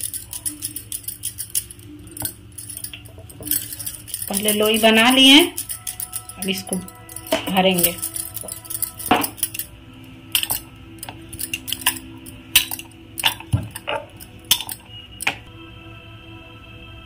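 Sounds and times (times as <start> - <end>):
glass bangles clinking: 0.0 - 15.5.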